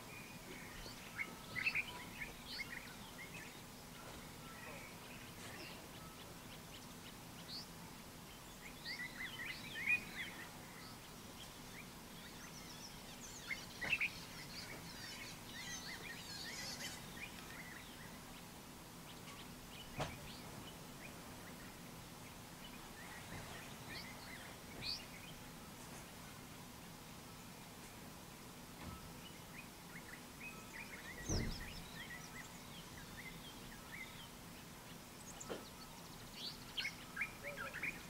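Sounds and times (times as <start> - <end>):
background hiss and low hum: 0.0 - 38.0
birds chirping and trilling: 0.0 - 38.0.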